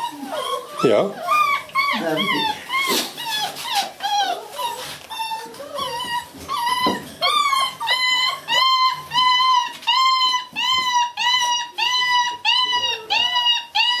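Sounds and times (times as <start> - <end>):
puppy whining and crying: 0.0 - 14.0.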